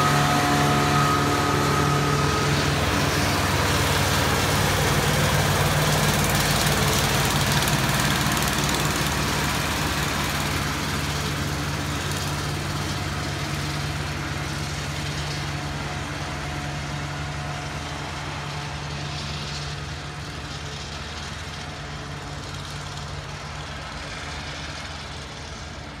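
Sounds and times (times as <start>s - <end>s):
rail machine engine passing: 0.0s - 26.0s.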